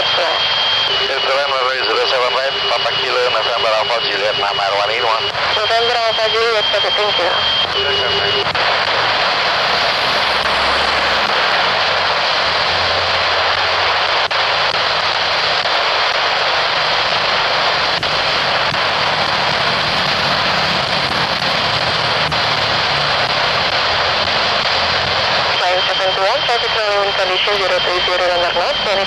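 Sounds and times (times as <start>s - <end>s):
high whine: 0.0s - 29.0s
jet engines roaring: 0.0s - 29.0s.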